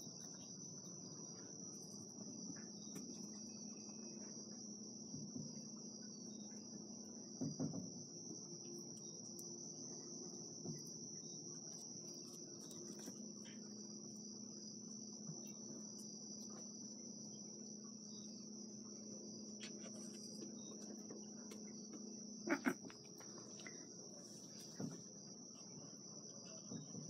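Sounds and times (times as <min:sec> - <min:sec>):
crickets trilling: 0:00.0 - 0:27.0
faint low hum: 0:00.0 - 0:27.0.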